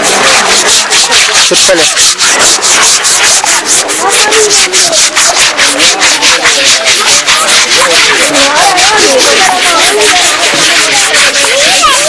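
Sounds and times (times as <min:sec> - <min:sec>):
scrubbing wet elephant hide: 0:00.0 - 0:12.0.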